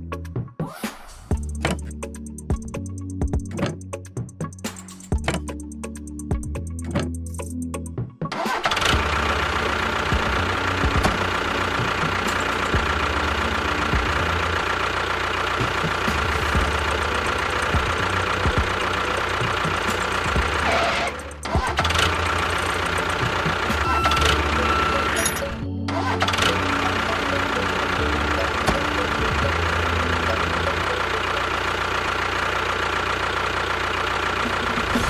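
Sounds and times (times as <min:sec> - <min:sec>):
engine running with knocking texture: 0:01.3 - 0:35.0.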